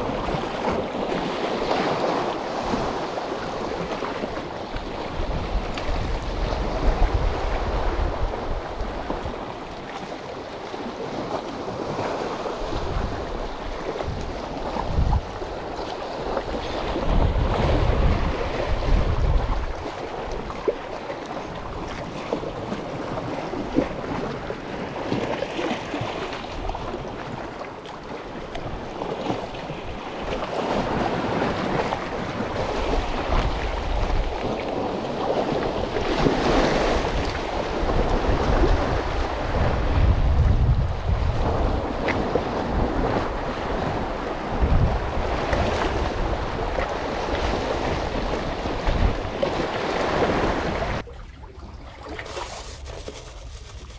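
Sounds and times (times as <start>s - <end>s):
wind buffeting microphone: 0.0s - 20.8s, 28.4s - 53.9s.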